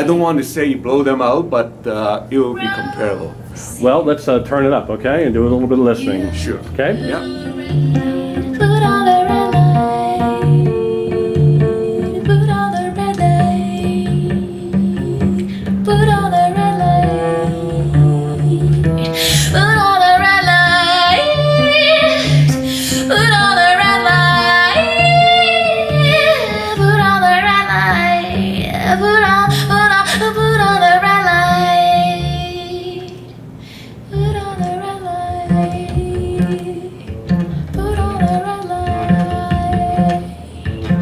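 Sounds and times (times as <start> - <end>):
plucked guitar: 5.0 - 33.5, 34.1 - 41.0
woman singing: 5.9 - 33.4, 34.1 - 41.0.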